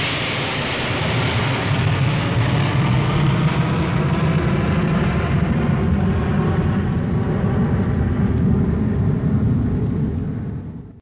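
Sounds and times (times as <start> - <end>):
jet airliner engine rumble: 0.0 - 11.0.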